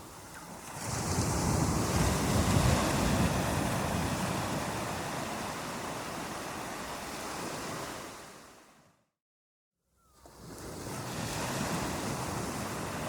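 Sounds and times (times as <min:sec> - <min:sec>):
ocean surf washing onto beach: 0:00.0 - 0:08.7, 0:10.5 - 0:13.0.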